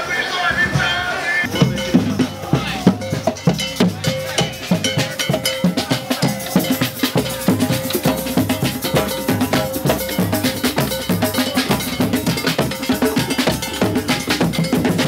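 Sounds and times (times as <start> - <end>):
steady drum beat: 0.6 - 15.0
held ringing tone: 1.4 - 15.0.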